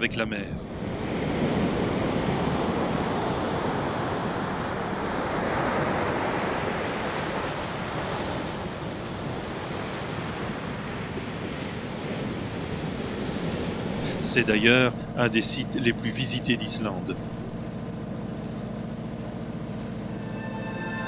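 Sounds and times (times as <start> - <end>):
ocean surf breaking: 0.6 - 17.6.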